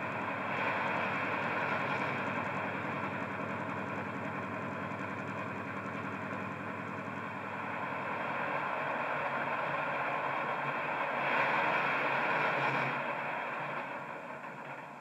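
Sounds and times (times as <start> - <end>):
diesel engine sound from speaker: 0.0 - 15.0.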